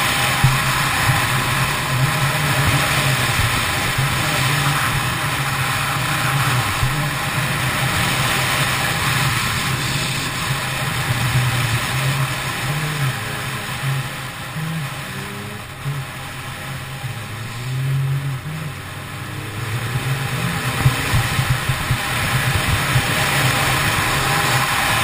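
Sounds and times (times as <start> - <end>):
motorcycle engine cruising: 0.0 - 25.0
wind rush: 0.0 - 25.0.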